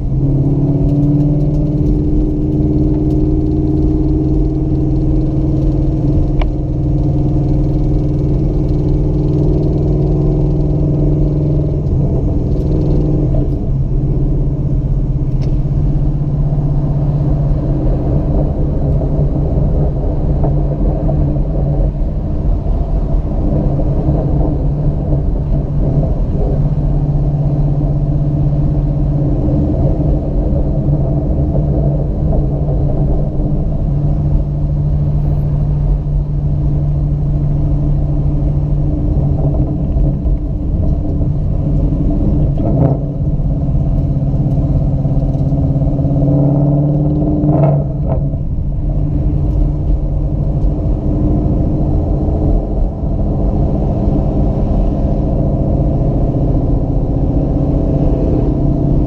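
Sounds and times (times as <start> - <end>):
car engine running at low revs: 0.0 - 59.0.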